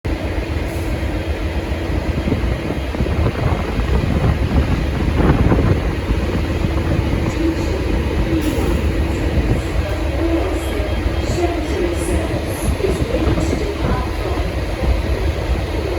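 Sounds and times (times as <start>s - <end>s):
locomotive diesel engine rumbling: 0.1s - 15.9s.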